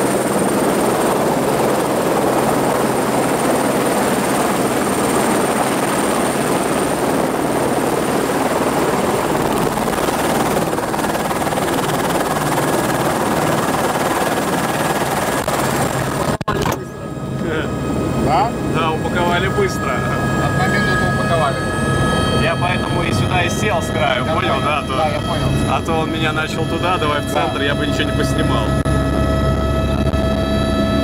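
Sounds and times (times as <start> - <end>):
helicopter rotor and engine rush: 0.0 - 31.0
high turbine whine: 0.0 - 31.0.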